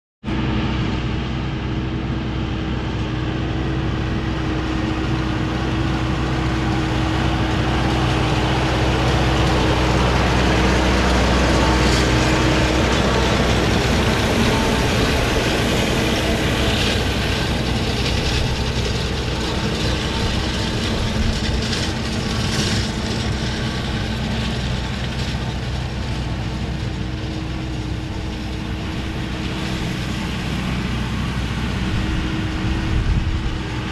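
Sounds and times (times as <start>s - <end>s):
tractor engine drone: 0.2s - 33.9s.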